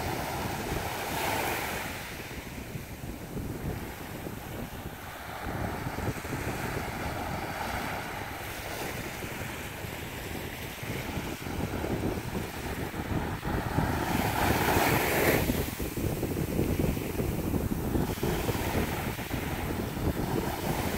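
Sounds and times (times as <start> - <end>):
small waves breaking on sand: 0.0 - 20.9
wind buffeting microphone: 0.0 - 20.9.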